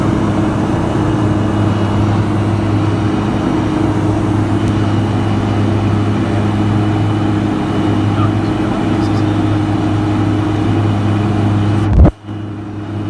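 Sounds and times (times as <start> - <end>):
turboprop engine and propeller hum: 0.0 - 13.0.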